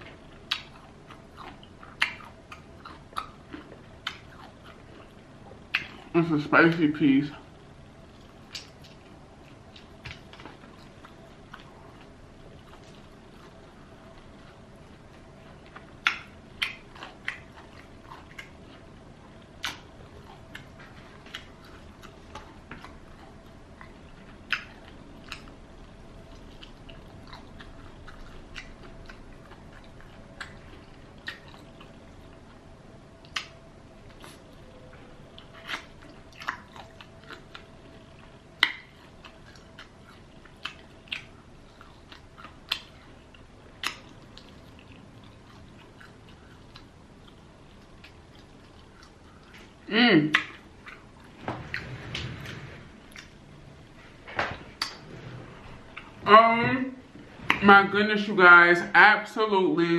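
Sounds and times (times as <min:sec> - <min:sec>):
crunching and chewing fried chicken: 0:00.0 - 0:55.1
faint steady hum: 0:00.0 - 0:59.9.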